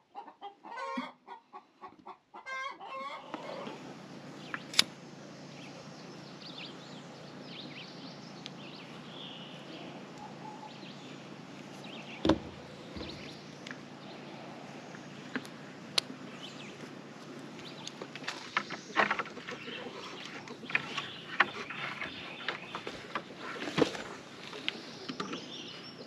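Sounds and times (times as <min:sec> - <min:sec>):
chickens clucking: 0:00.0 - 0:26.0
birds chirping: 0:02.4 - 0:26.0.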